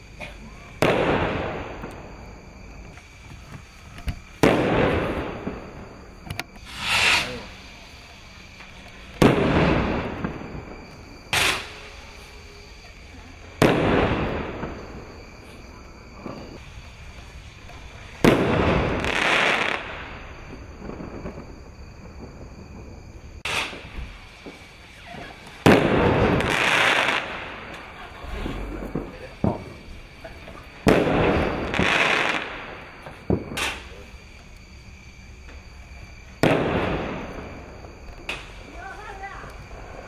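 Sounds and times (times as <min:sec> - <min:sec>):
firework rockets bursting: 0:00.0 - 0:40.0.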